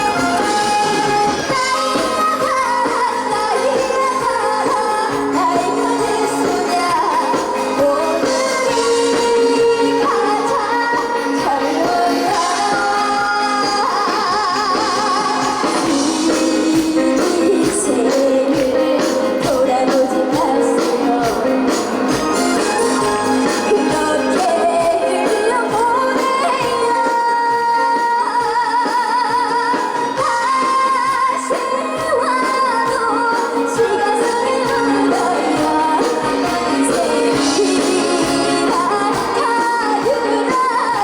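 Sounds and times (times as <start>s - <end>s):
amplified backing track: 0.0s - 41.0s
woman singing with vibrato: 0.0s - 41.0s.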